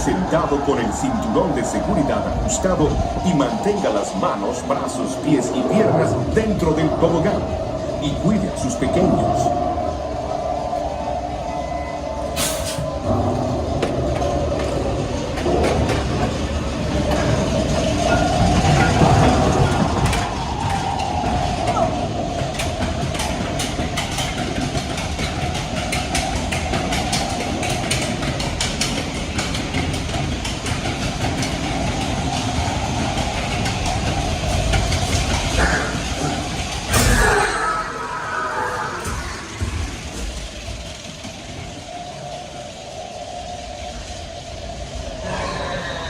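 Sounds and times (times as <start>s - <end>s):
ride vehicle rumbling on steel track: 0.0s - 46.0s
wheels clicking and clacking: 0.0s - 46.0s.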